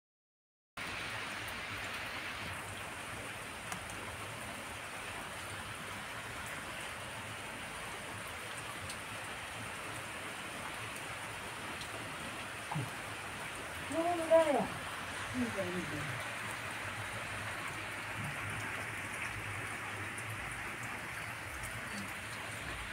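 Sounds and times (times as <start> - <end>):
steady rain on wet dirt: 0.8 - 22.9.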